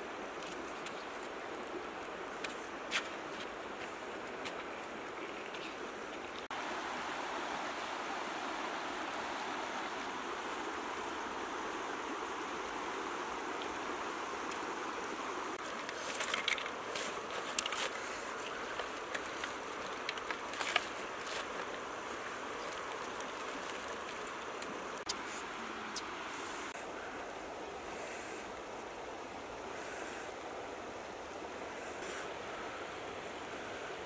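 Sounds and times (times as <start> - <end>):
river flowing over stones: 0.0 - 34.0.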